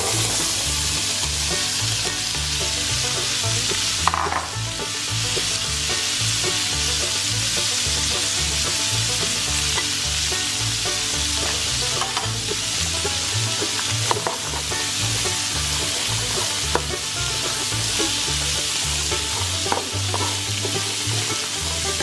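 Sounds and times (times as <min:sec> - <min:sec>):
background music with bass line: 0:00.0 - 0:22.0
corn sizzling in butter: 0:00.0 - 0:22.0.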